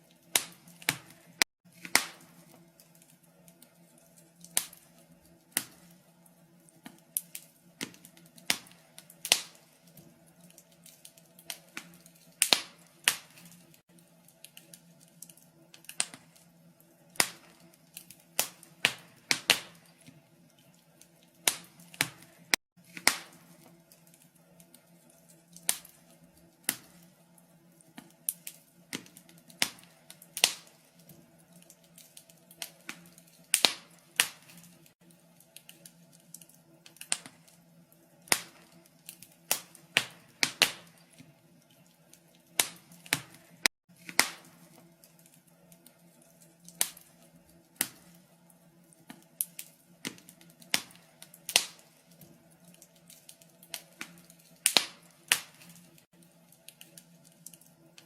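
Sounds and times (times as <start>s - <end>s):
wood fire crackling: 0.0s - 58.0s
pops and snaps of burning wood: 0.1s - 58.0s.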